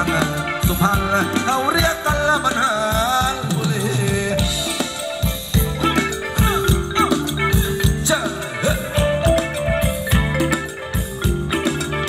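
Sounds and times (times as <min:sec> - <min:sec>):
steady drum beat: 0:00.0 - 0:12.0
sustained melody line: 0:00.0 - 0:12.0.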